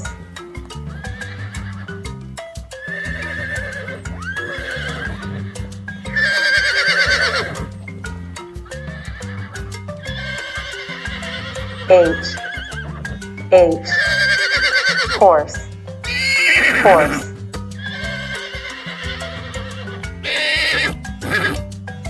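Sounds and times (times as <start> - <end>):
background music: 0.0 - 22.0
horse whinnying: 0.8 - 8.1, 8.7 - 21.6.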